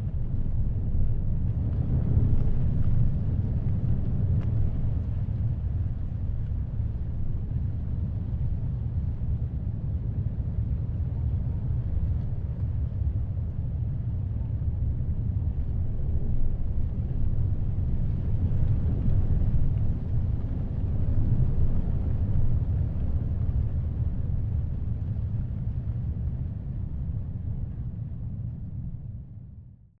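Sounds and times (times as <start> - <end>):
strong wind: 0.0 - 29.7.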